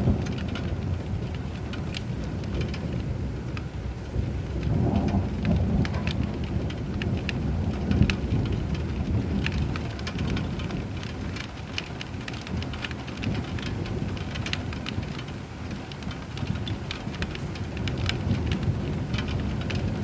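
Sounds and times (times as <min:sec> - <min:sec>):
rain pattering: 0:00.0 - 0:20.0
rolling thunder rumble: 0:00.0 - 0:20.0.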